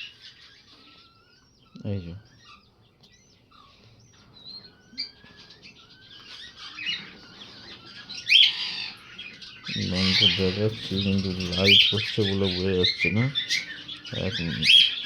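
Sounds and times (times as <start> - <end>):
cockatiels chirping and whistling: 0.0 - 15.0.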